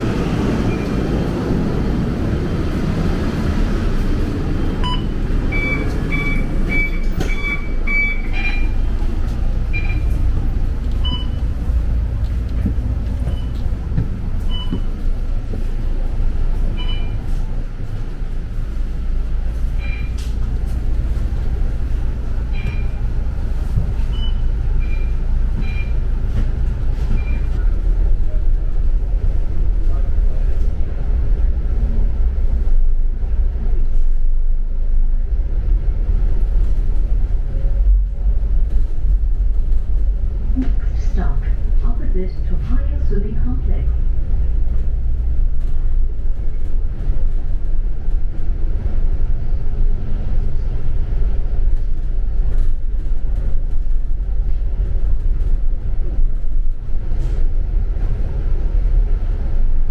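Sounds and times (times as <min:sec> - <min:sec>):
bus engine rumbling: 0:00.0 - 0:59.9.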